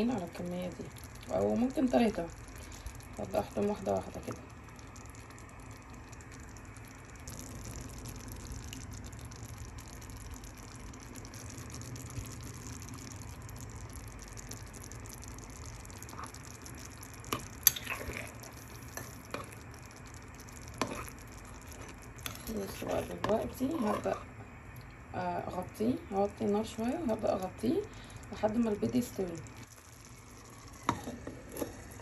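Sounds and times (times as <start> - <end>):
stew simmering bubbling hiss: 0.0 - 32.0.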